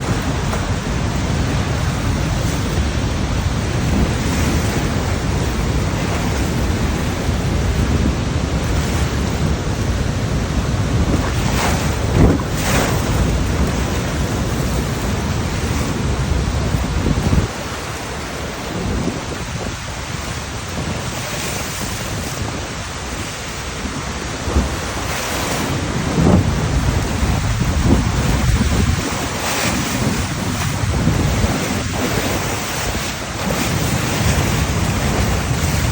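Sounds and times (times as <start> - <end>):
waterfall roaring: 0.0 - 35.9
wind buffeting microphone: 0.0 - 35.9.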